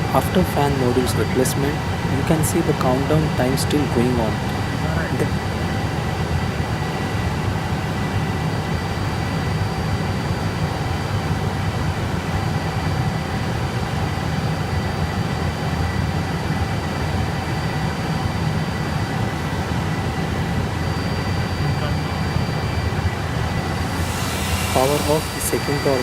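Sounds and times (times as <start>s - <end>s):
cooling fans whirring: 0.0s - 26.0s
faint steady whining tones: 0.0s - 26.0s.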